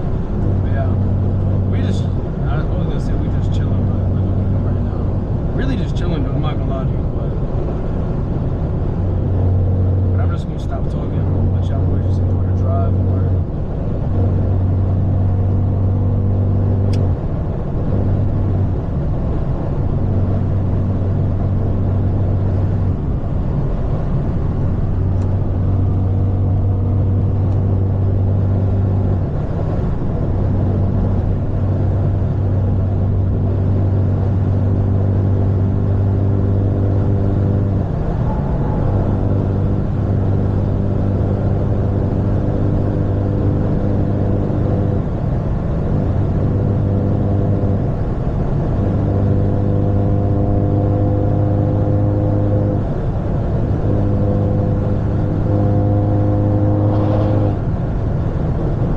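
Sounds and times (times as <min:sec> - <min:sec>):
car exhaust droning: 0:00.0 - 0:58.9.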